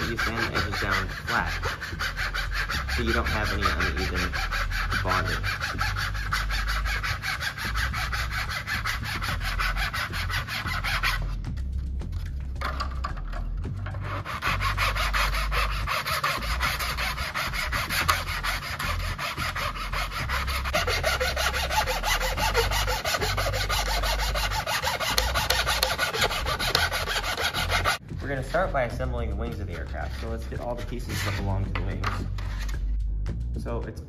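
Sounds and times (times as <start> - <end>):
hand file rasping on plastic: 0.0 - 11.7, 12.6 - 28.0, 29.8 - 32.9.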